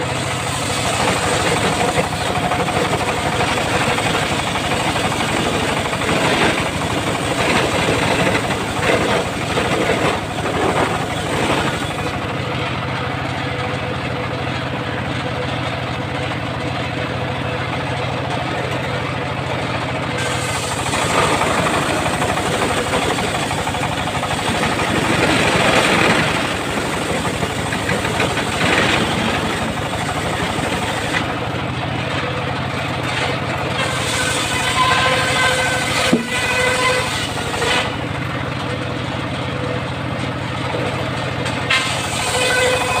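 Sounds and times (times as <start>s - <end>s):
sawmill engine running: 0.0s - 43.0s.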